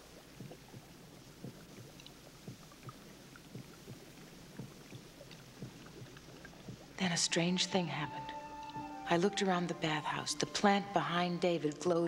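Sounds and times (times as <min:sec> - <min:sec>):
low steady hum: 0:00.0 - 0:12.0
water dripping and lapping: 0:00.0 - 0:12.0.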